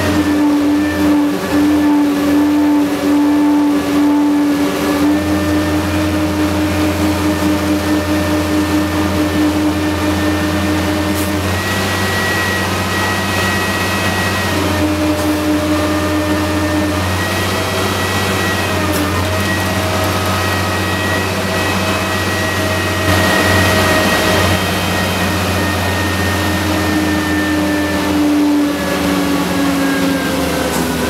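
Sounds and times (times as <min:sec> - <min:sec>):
heavy machine engine hum: 0:00.0 - 0:31.0
machine drive whine: 0:00.0 - 0:31.0.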